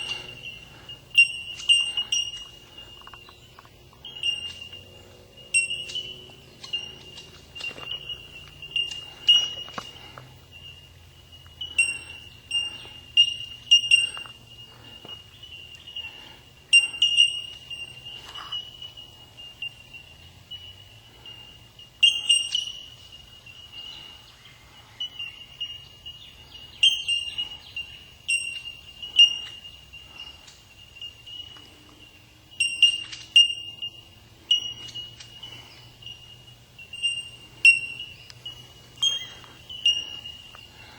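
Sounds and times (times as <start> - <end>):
bellbirds calling: 0.0 - 40.9.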